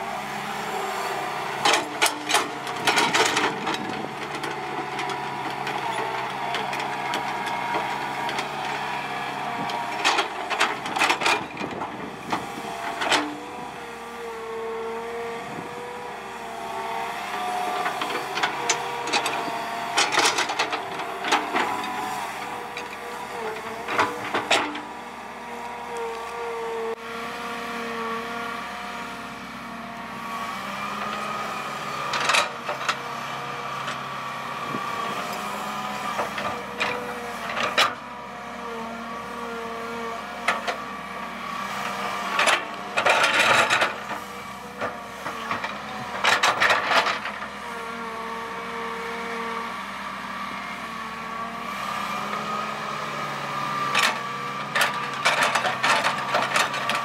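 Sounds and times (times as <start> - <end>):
excavator engine whine: 0.0 - 57.0.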